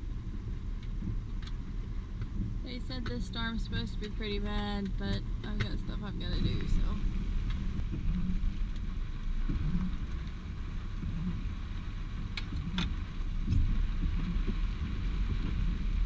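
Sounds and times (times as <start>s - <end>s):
rain hissing: 0.0s - 16.0s
vehicle engine low rumble: 0.0s - 16.0s
light ticks: 0.8s - 11.2s, 12.3s - 15.8s.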